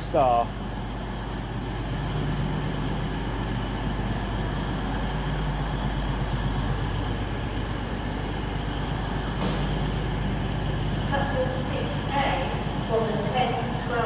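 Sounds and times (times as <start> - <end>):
diesel train engine drone: 0.0 - 14.0.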